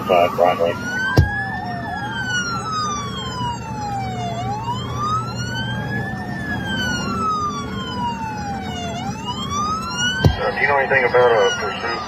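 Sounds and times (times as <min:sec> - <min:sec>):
police siren wailing: 0:00.0 - 0:12.0
road noise: 0:00.0 - 0:12.0
siren yelping warble: 0:00.0 - 0:12.0.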